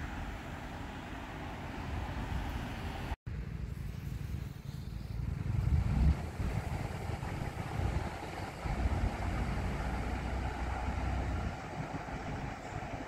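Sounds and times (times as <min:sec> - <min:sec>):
cars passing on road: 0:00.0 - 0:13.0.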